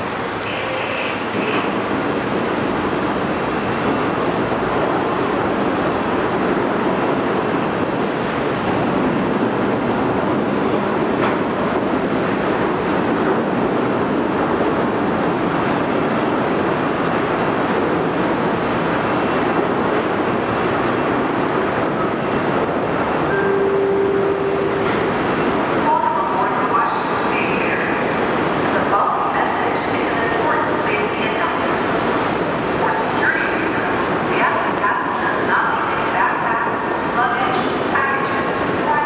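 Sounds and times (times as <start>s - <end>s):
wind on microphone: 0.0s - 35.2s.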